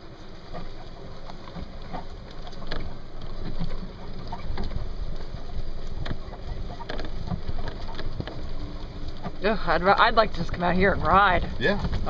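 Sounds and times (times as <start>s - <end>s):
vehicle rumbling over rough ground: 0.0s - 12.0s
knocks and rattles: 0.5s - 12.0s.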